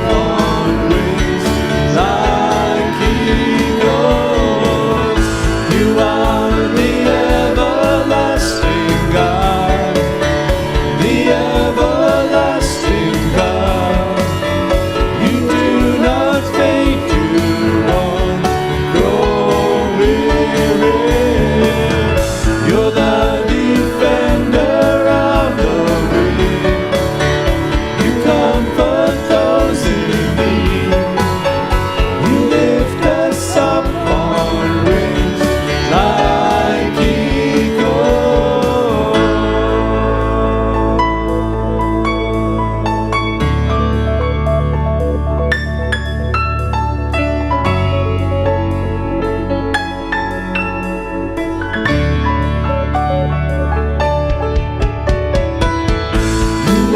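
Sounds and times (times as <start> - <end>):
church band worship song: 0.0 - 56.9.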